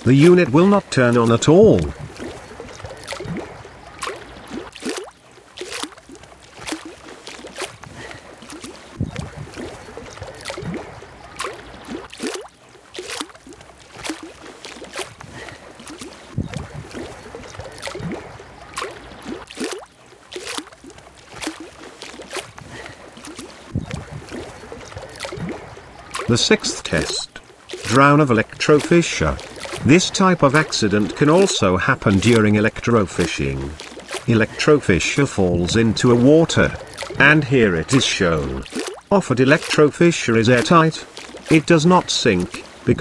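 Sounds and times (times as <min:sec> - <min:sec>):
small waves lapping at shore: 0:00.0 - 0:43.0.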